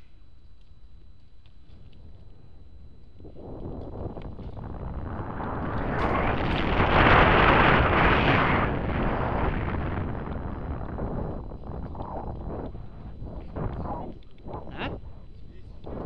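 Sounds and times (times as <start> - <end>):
wind rushing over microphone: 1.0 - 16.0
low rumble: 1.7 - 16.0.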